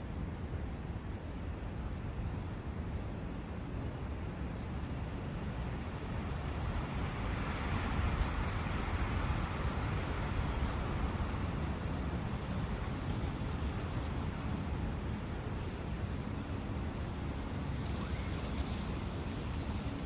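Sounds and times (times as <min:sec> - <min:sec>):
continuous low rumble: 0:00.0 - 0:20.0.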